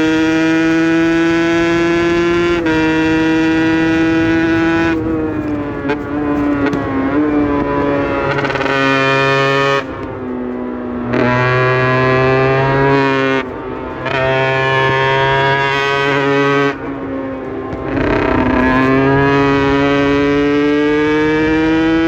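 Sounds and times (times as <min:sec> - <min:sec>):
two-stroke motorcycle engine: 0:00.0 - 0:22.0.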